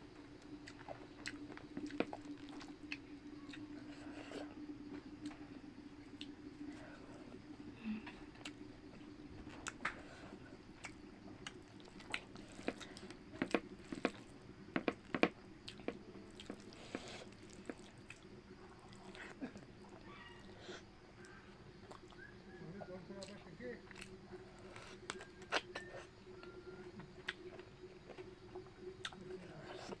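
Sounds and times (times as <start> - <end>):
person chewing food: 0.4 - 20.6, 21.2 - 22.3, 23.2 - 30.0.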